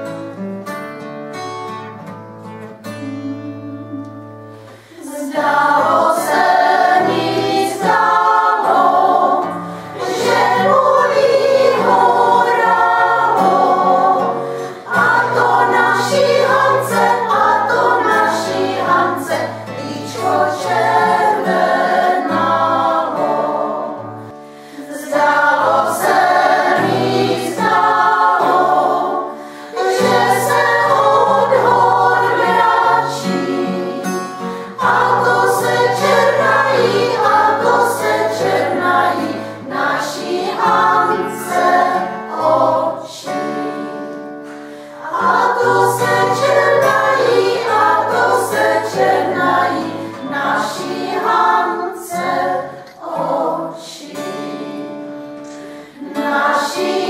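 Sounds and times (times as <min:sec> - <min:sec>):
acoustic guitar: 0:00.0 - 0:57.0
women's choir singing: 0:02.8 - 0:57.0.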